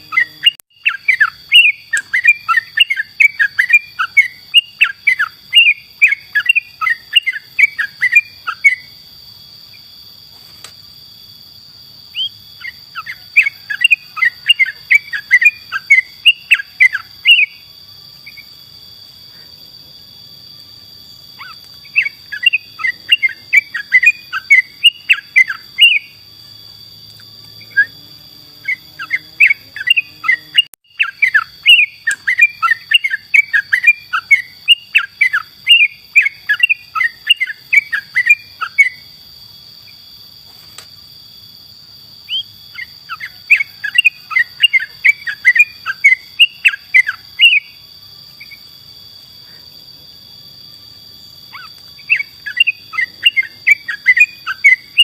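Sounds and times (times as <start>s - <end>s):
bird chirping song: 0.0s - 11.4s, 12.0s - 40.0s, 42.2s - 55.0s
high insect drone: 0.0s - 55.0s.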